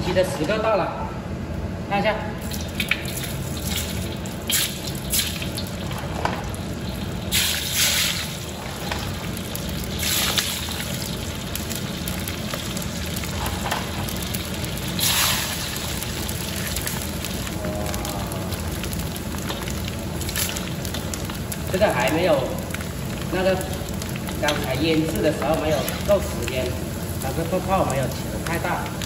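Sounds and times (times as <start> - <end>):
oil sizzling in a wok: 2.4 - 29.0.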